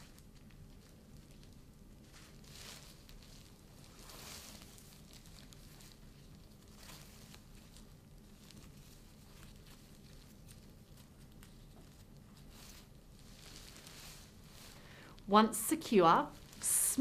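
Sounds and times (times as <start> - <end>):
plastic gown rustling: 0.0 - 17.0
room hum: 0.0 - 17.0.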